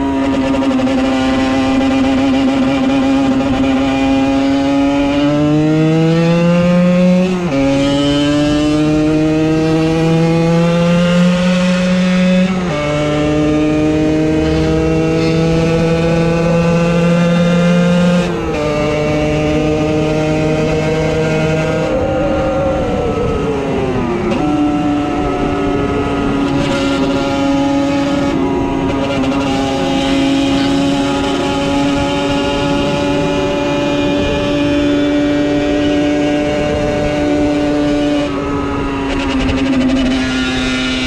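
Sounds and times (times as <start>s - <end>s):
motorcycle engine shifting gears: 0.0s - 41.0s.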